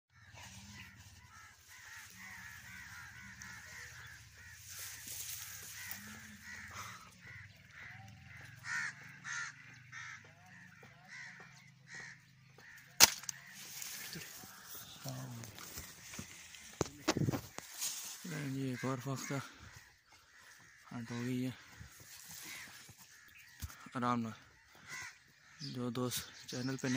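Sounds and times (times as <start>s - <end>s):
birds calling and chattering: 0.1s - 26.9s.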